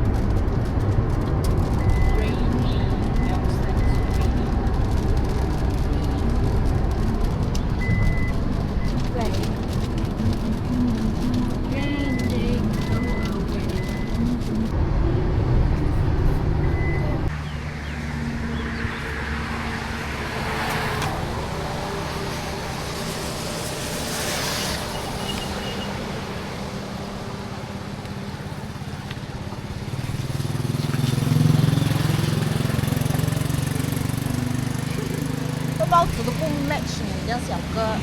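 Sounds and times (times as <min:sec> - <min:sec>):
motor vehicle low rumble: 0:00.0 - 0:38.0.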